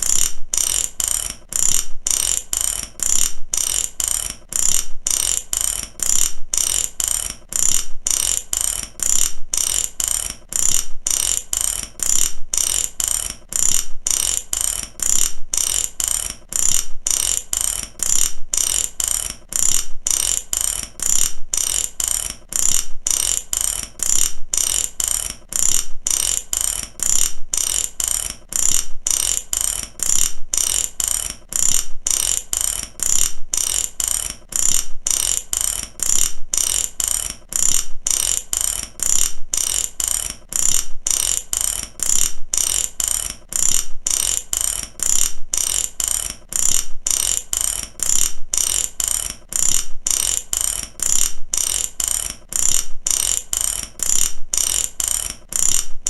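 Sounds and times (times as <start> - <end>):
ratchet wrench clicking: 0.0 - 56.0.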